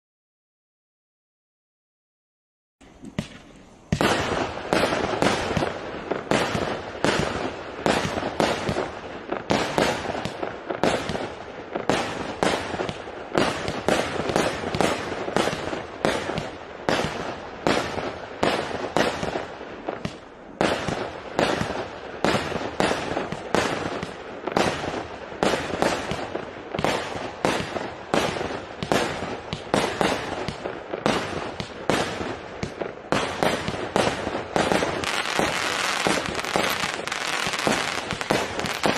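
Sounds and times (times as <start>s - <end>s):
firework cake bangs: 3.1s - 19.4s, 20.0s - 38.9s.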